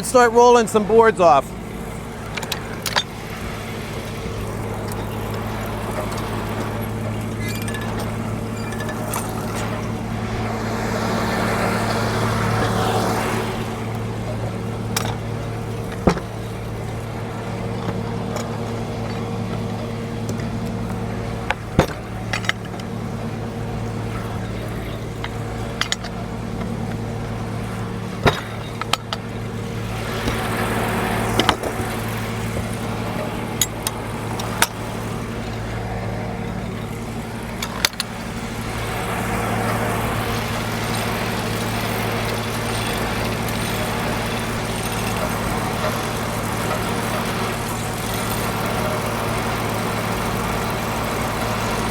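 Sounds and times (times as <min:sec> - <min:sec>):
knocks and clanks of machinery: 0:00.0 - 0:51.9
sawmill power unit humming: 0:00.0 - 0:51.9.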